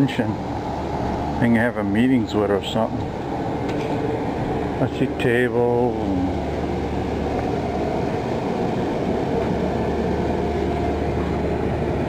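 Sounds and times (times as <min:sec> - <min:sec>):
steady rumbling: 0:00.0 - 0:12.0.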